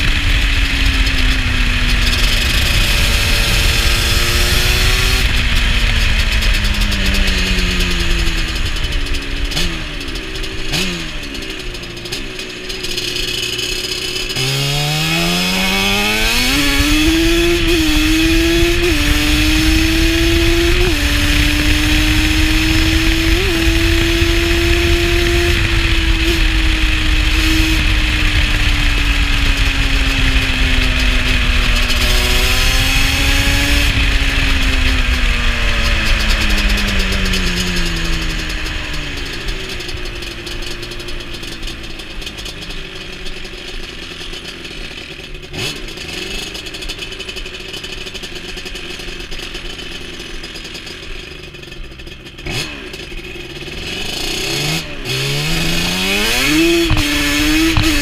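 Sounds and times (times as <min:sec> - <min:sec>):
two-stroke quad engine revving: 0:00.0 - 0:58.0.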